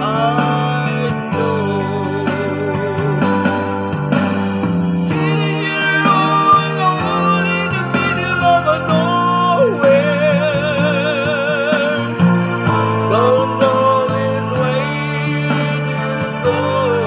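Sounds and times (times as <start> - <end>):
man singing into a microphone: 0.0 - 4.1, 5.1 - 17.0
karaoke backing track: 0.0 - 17.0.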